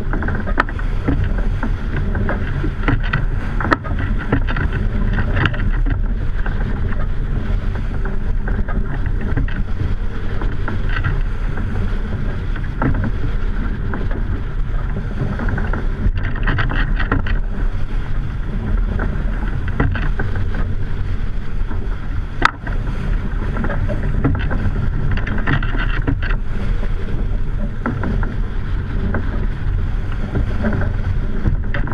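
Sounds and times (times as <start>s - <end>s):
water rushing past hull: 0.0s - 31.9s
wind buffeting microphone: 0.0s - 31.9s.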